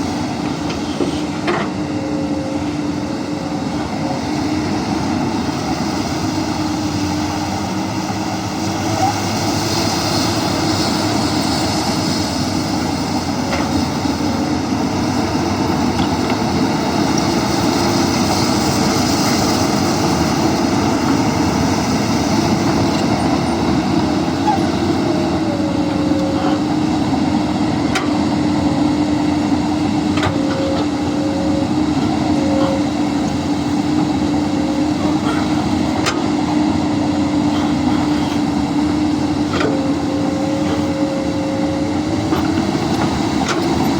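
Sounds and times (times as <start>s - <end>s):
excavator diesel engine and hydraulics: 0.0s - 43.9s.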